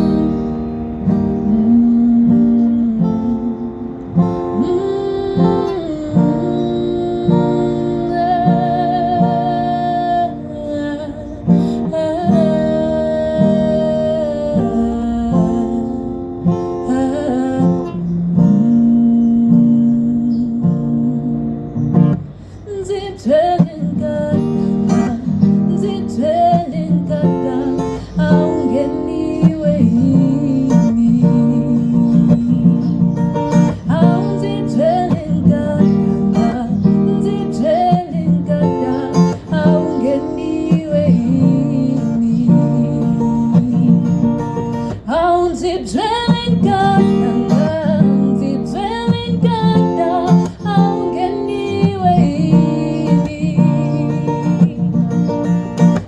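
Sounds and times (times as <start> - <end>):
person singing: 0.0 - 56.0
plucked guitar: 0.0 - 56.0.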